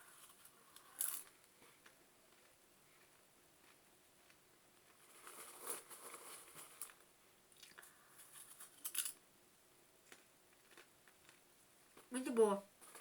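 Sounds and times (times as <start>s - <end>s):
popcorn crackling and rustling: 0.0s - 9.3s, 10.0s - 13.0s.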